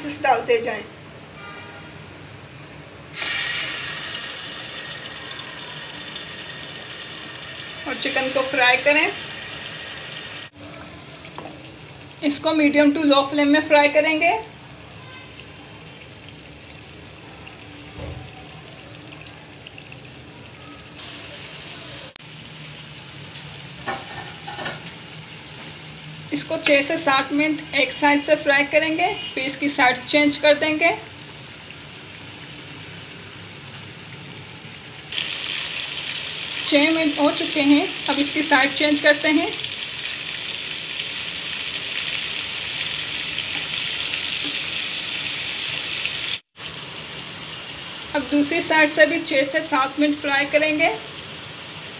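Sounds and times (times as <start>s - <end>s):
chicken sizzling in oil: 3.1s - 51.9s.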